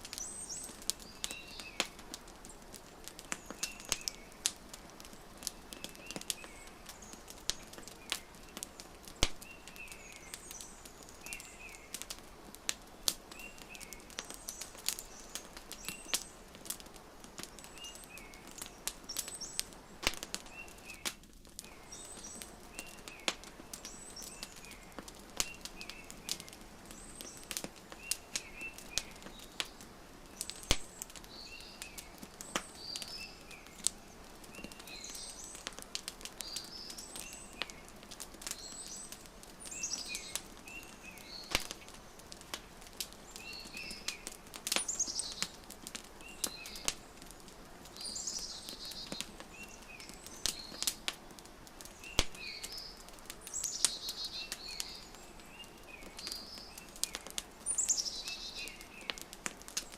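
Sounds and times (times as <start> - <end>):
wood fire crackling: 0.0 - 59.9
birds chirping: 0.1 - 59.9.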